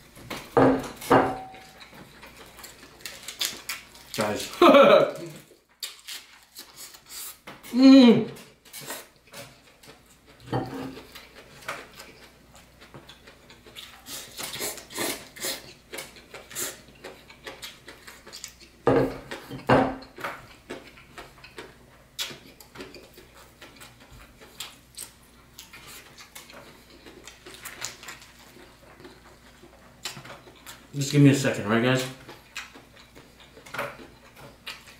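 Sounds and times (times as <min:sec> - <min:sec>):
person chewing: 0:00.4 - 0:31.0, 0:32.2 - 0:34.9.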